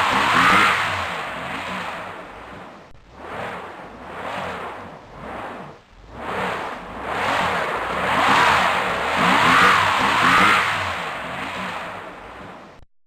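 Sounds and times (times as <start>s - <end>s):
vehicle engine revving: 0.0s - 12.8s.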